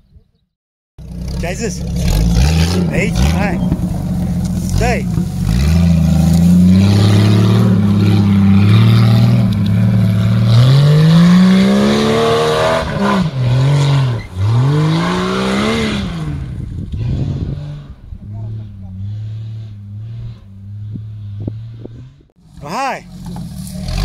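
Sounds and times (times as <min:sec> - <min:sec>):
car engine revving hard: 0:01.0 - 0:22.1.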